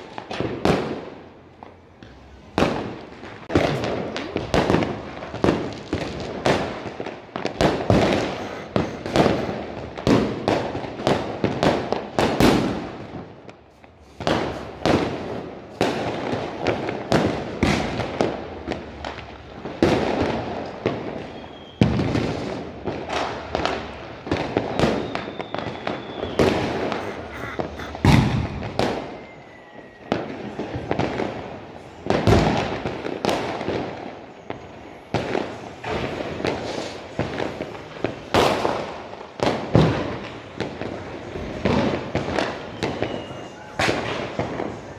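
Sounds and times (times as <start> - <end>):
fireworks bangs and crackles: 0.0 - 44.9
firework whistles: 2.0 - 44.9.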